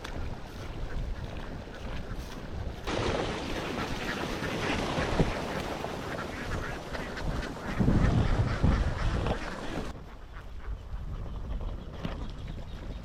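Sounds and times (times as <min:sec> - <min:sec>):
ducks quacking: 0:00.2 - 0:11.8.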